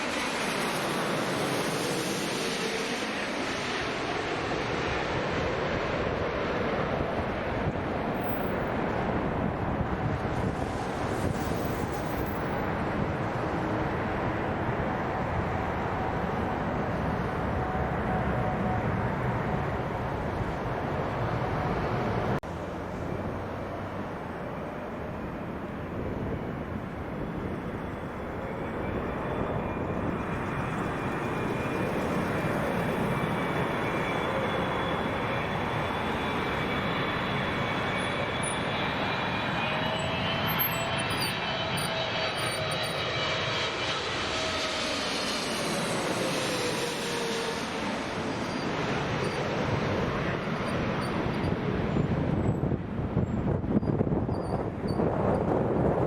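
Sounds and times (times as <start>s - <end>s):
jet airliner engines passing: 0.0s - 56.0s.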